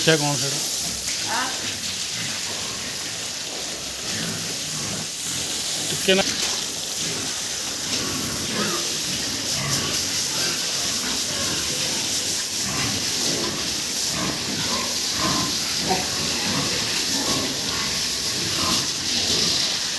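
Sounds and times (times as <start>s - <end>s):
steady hiss: 0.0s - 19.9s
pigs grunting and squealing: 0.6s - 19.9s.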